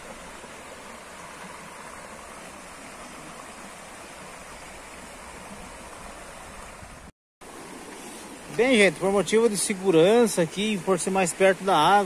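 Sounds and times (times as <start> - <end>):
creek water rushing over stones: 0.0 - 12.0.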